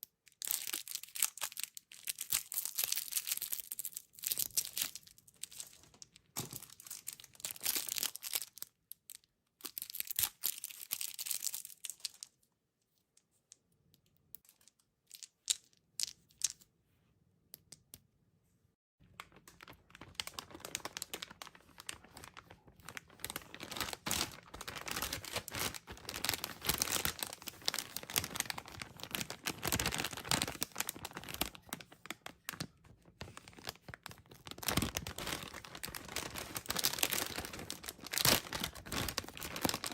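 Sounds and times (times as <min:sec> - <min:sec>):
plastic wrappers crinkling and tearing: 0:00.3 - 0:12.3, 0:19.0 - 0:39.9.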